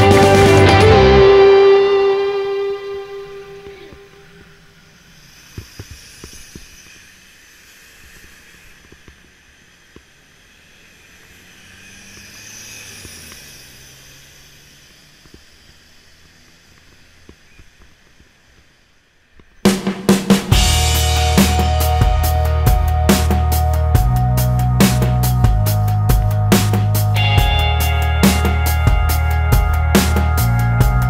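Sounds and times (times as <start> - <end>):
bus engine and hiss: 0.0 - 31.0
street traffic noise: 0.0 - 31.0.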